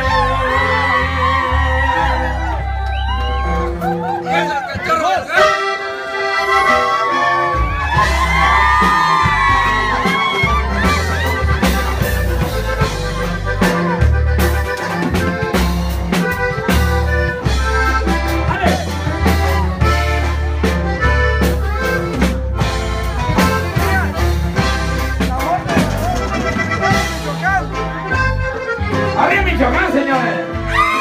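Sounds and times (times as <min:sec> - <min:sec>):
bass line: 0:00.0 - 0:31.0
drum beats: 0:00.0 - 0:31.0
live band playing: 0:00.0 - 0:31.0.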